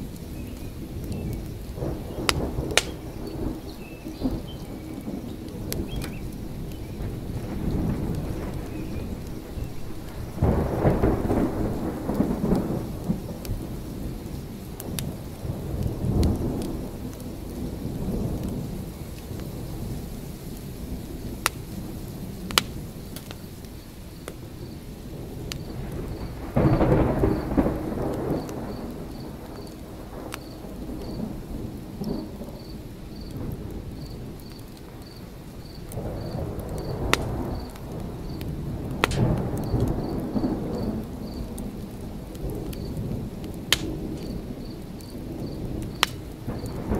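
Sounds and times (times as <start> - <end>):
rolling thunder: 0.0 - 46.9
steady rain: 0.0 - 46.9.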